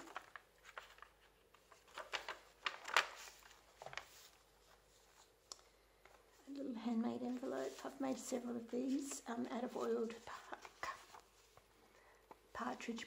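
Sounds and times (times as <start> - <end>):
paper pages rustling: 0.0 - 13.0.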